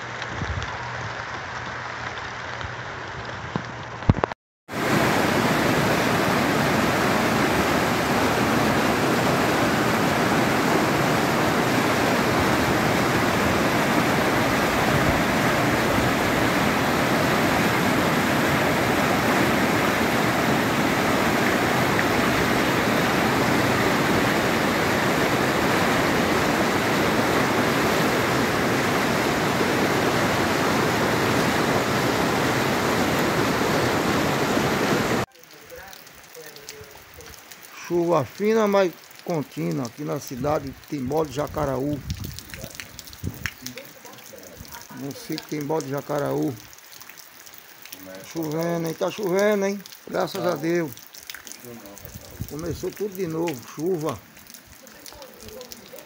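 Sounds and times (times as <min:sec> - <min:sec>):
water rushing through rapids: 0:04.7 - 0:56.0.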